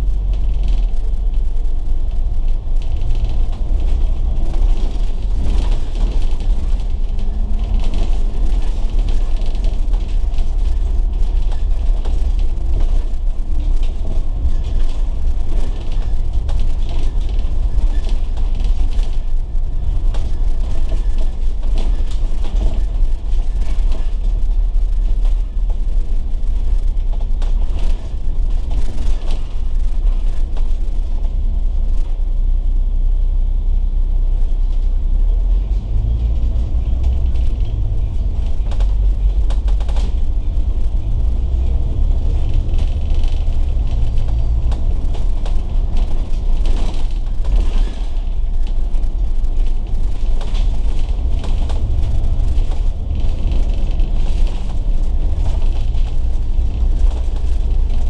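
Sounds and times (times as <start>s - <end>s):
body rattles and clicks: 0.0s - 32.3s, 35.6s - 58.0s
bus diesel engine rumble: 0.0s - 58.0s.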